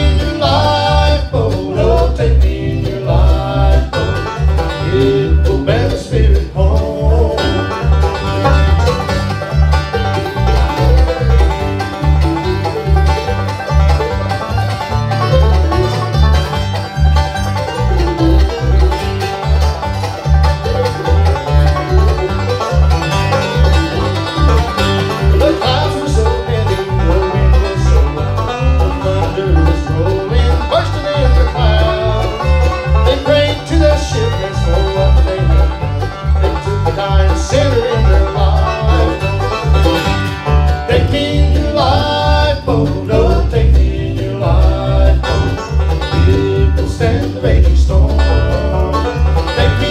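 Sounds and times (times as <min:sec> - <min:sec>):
bluegrass band playing: 0:00.0 - 0:49.9
electric bass line: 0:00.0 - 0:49.9.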